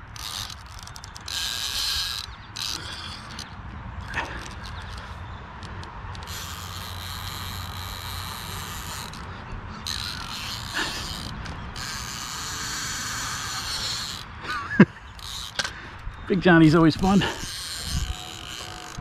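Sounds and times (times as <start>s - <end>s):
fishing reel ratcheting: 0.0s - 19.0s.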